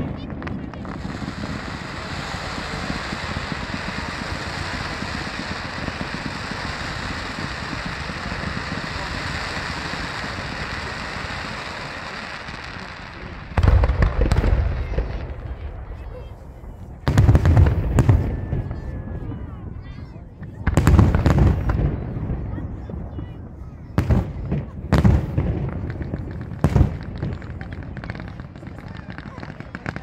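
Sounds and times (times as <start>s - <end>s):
fireworks crackling hiss: 0.0s - 19.5s, 23.5s - 30.0s
loud firework bangs: 0.0s - 30.0s.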